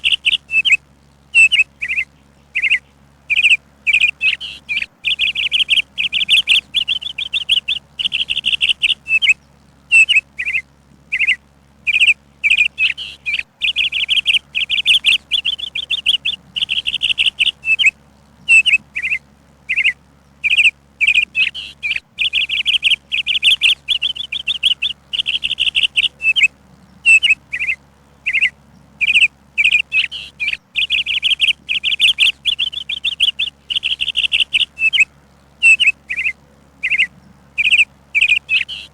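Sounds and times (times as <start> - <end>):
songbird chirping in rapid trills: 0.0 - 38.9.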